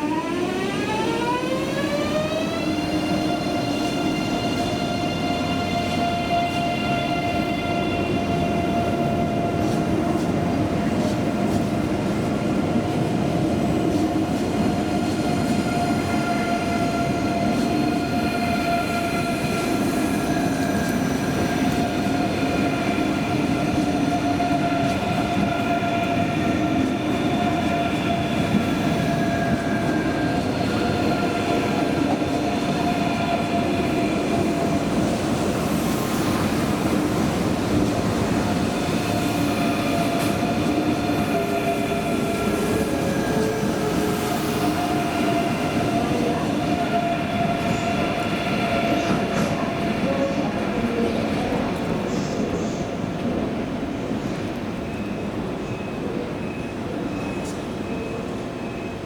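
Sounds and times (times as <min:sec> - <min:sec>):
train wheels rumbling: 0:00.2 - 0:55.0.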